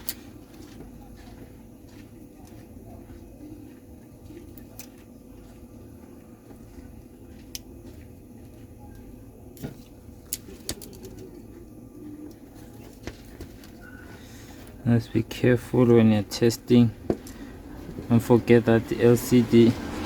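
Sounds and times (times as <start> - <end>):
low steady background hum: 0.0 - 20.0.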